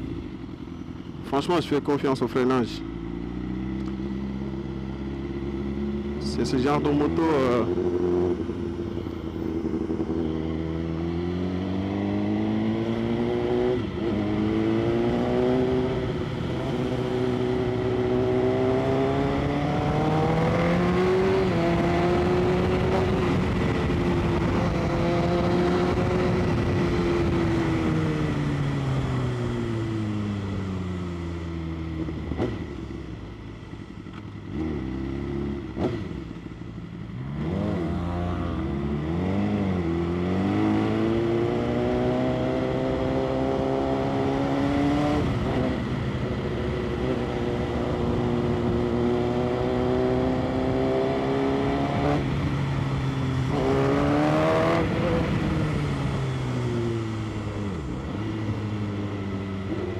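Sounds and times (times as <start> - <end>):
motorcycle engine revving: 2.4 - 33.2, 34.1 - 59.9.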